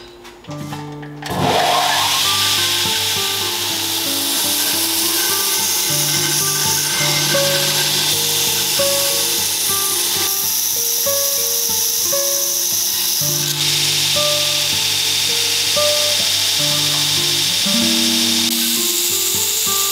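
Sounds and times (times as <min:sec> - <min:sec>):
background music: 0:00.3 - 0:19.9
belt grinder grinding steel: 0:01.3 - 0:19.9.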